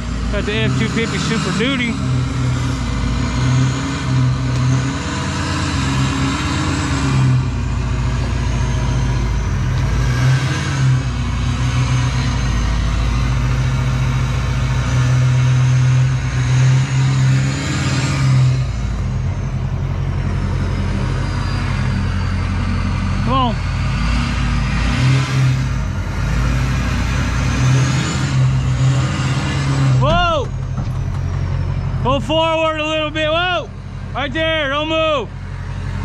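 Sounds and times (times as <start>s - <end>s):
pickup truck engine running: 0.0s - 36.0s.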